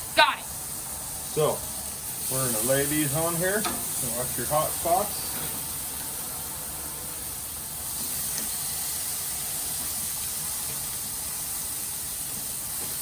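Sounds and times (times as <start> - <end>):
steaks sizzling on a grill: 0.0 - 13.0.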